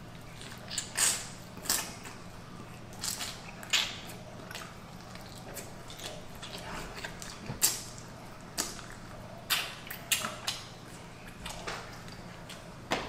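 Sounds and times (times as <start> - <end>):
chewing: 0.0 - 12.8
steady low hum: 0.0 - 13.0.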